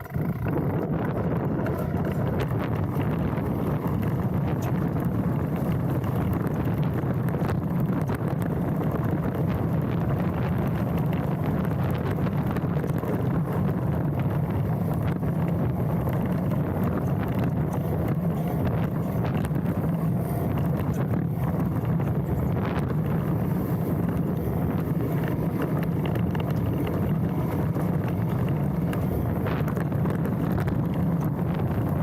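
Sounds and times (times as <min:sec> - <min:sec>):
bike rattling on dirt trail: 0:00.0 - 0:32.0
wind buffeting microphone: 0:00.0 - 0:32.0.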